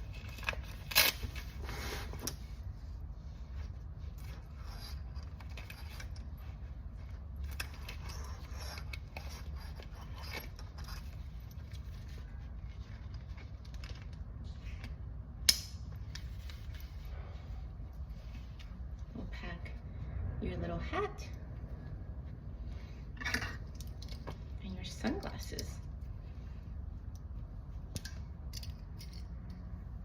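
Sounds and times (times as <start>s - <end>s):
objects being handled: 0.0s - 19.2s, 21.6s - 30.0s
steady low hum: 0.0s - 30.0s.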